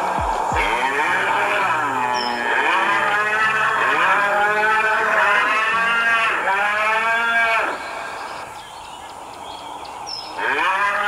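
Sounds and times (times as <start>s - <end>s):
cattle mooing: 0.0s - 8.4s, 10.4s - 11.0s.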